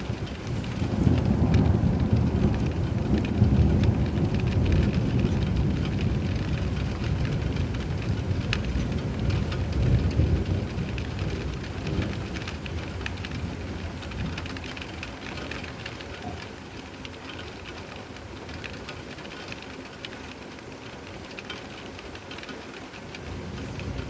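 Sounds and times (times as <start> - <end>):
low rumble of thunder: 0.0 - 19.9, 21.2 - 24.0
patter of raindrops: 0.0 - 24.0
steady rain: 0.0 - 24.0.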